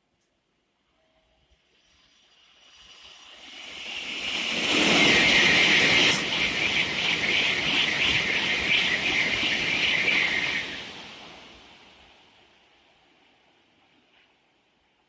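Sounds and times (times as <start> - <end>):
high-speed train rushing past: 1.8 - 15.0.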